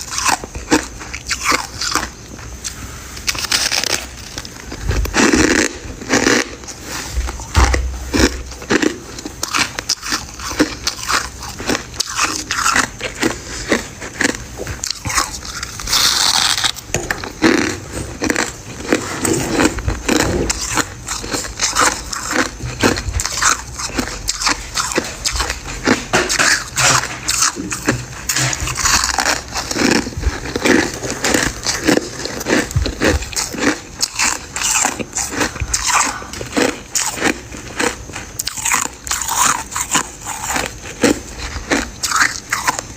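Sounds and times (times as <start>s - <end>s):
chewing crunchy ice: 0.0s - 42.9s.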